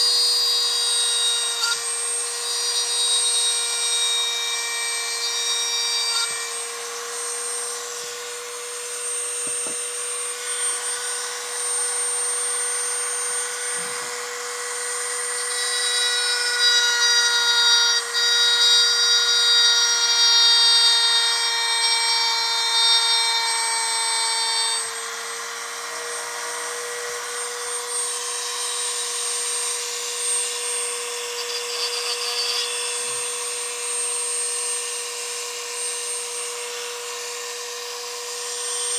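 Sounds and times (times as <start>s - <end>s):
rotary tool grinding with high whine: 0.0s - 38.9s.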